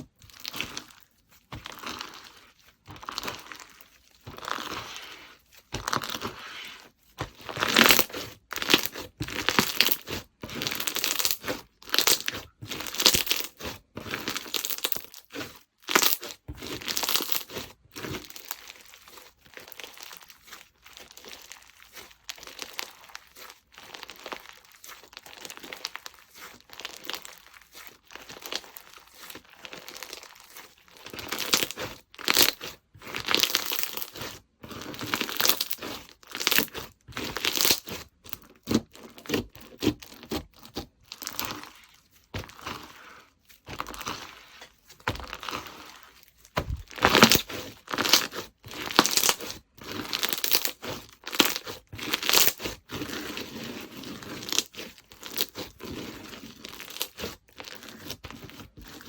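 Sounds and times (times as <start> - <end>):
slime squelching by hand: 0.0 - 59.0.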